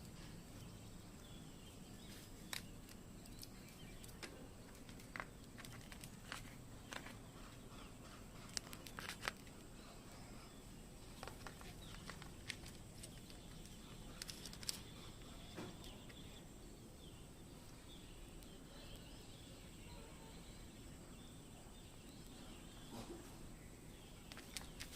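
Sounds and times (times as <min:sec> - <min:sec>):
low background hiss: 0:00.0 - 0:24.9.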